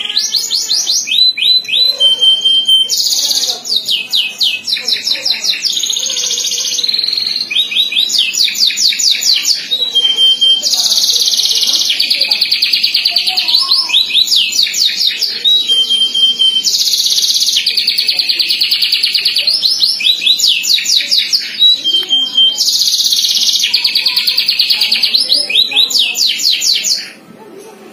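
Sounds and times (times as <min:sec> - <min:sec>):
canary singing trills: 0:00.0 - 0:27.3.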